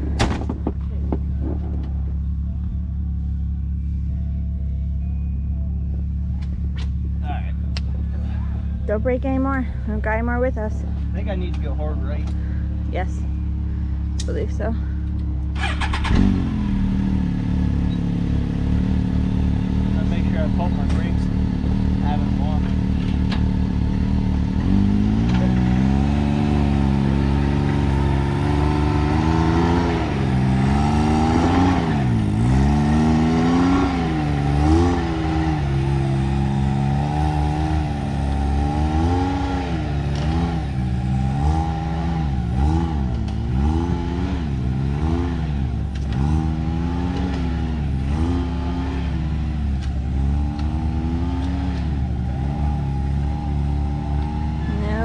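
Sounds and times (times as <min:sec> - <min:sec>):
engine revving in throttle blips: 0:06.4 - 0:55.0.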